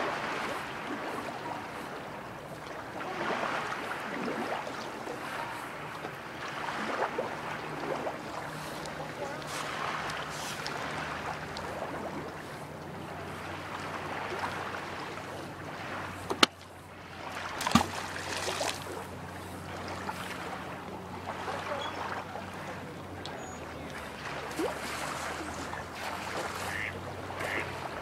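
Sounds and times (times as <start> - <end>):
lake water lapping at shore: 0.0 - 28.0.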